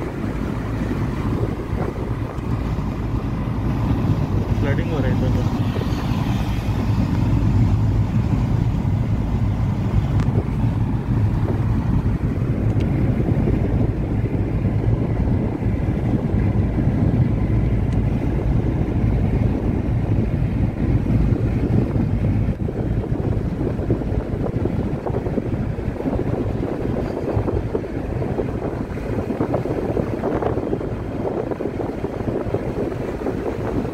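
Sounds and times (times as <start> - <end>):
road vehicle engine and tyre noise: 0.0 - 33.9
wind noise on microphone: 0.0 - 33.9.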